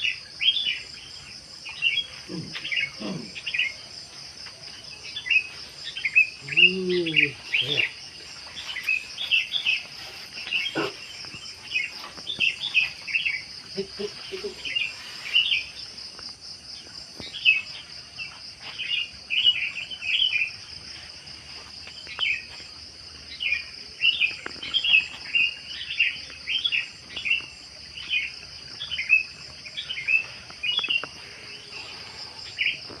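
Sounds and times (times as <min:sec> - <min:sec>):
crickets chirping chorus: 0:00.0 - 0:33.0.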